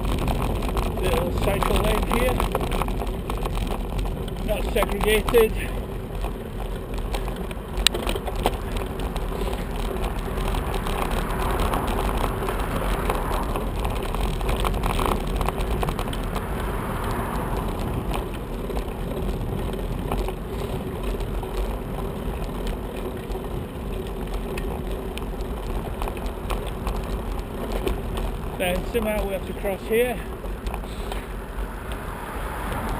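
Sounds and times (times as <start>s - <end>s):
bicycle rattles and clicks: 0.0s - 32.9s
street traffic: 0.0s - 32.9s
tyre noise on rough road: 0.0s - 32.9s
wind noise: 0.0s - 32.9s.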